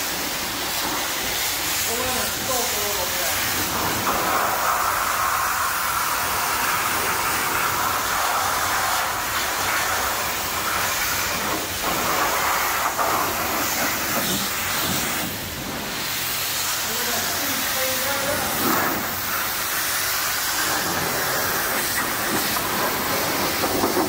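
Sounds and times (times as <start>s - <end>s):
pressure washer spraying: 0.0s - 24.0s.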